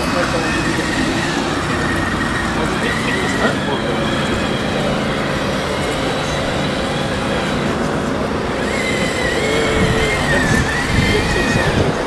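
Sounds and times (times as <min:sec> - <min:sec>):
high motor whine: 0:00.0 - 0:12.0
model dozer mechanical drone: 0:00.0 - 0:12.0.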